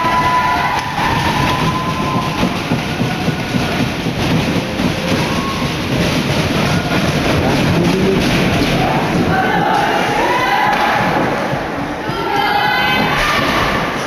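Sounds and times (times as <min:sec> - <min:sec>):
crowd cheering and shouting: 0:00.0 - 0:14.0.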